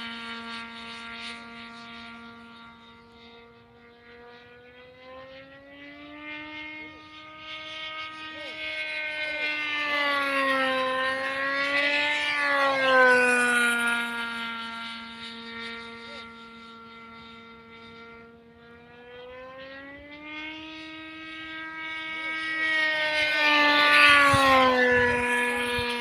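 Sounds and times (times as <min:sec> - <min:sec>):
model airplane engine buzzing: 0:00.0 - 0:26.0.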